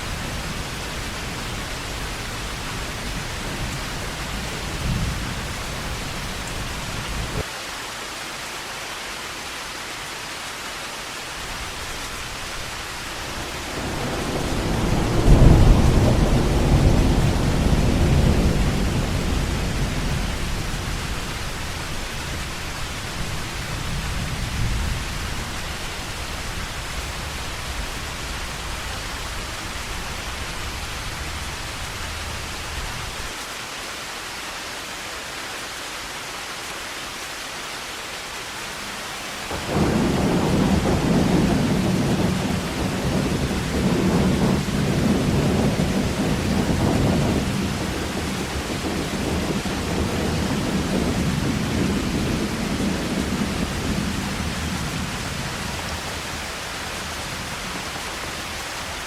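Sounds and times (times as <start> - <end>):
thunder rumbling: 0.0 - 7.4, 11.4 - 33.4, 39.4 - 57.9
heavy rain: 0.0 - 59.0.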